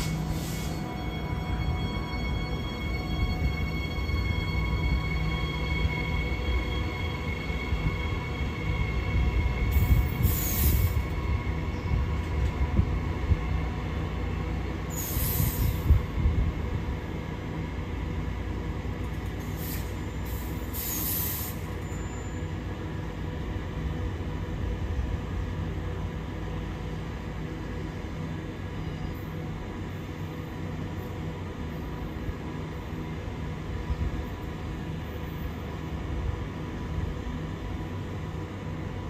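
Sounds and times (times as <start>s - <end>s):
train low rumble: 0.0s - 39.0s.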